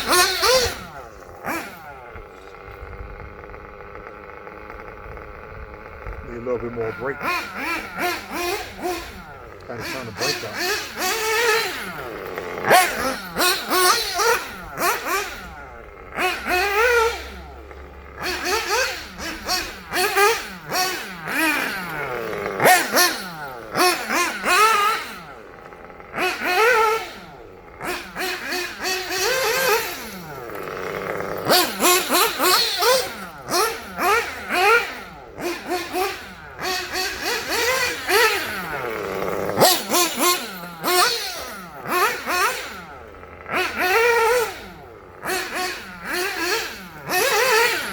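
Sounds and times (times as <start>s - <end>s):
model engine revving: 0.0s - 47.9s.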